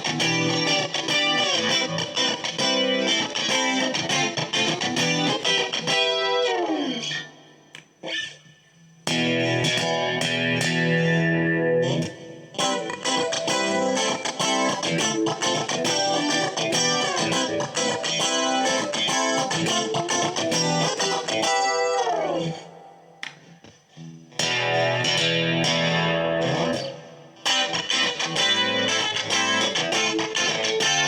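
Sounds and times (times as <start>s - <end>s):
clean electric guitar playing: 0.0s - 8.4s, 9.0s - 31.0s.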